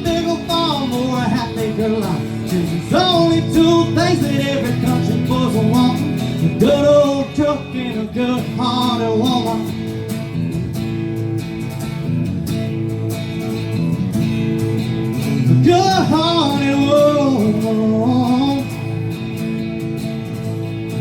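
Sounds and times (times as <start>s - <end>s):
live country music: 0.0s - 21.0s
strummed acoustic guitar: 0.0s - 21.0s.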